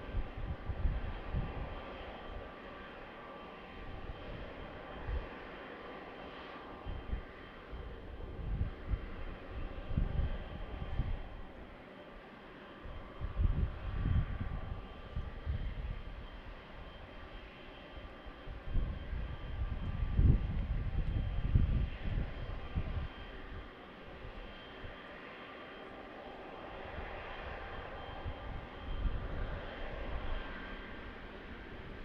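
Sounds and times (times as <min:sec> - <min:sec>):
distant jet engines whining: 0:00.0 - 0:32.0.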